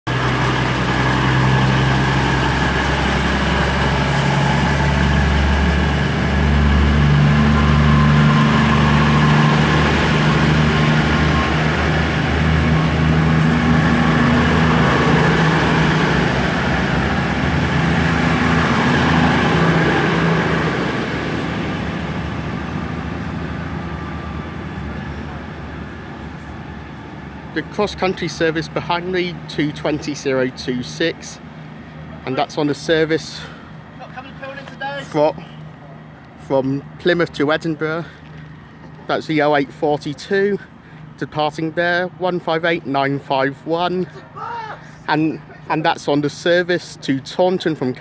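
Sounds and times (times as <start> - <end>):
diesel train engines running: 0.1 - 48.0.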